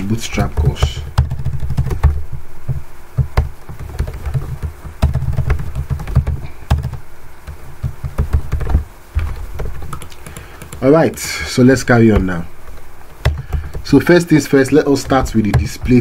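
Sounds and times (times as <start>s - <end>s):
typing on a keyboard: 0.6s - 16.0s.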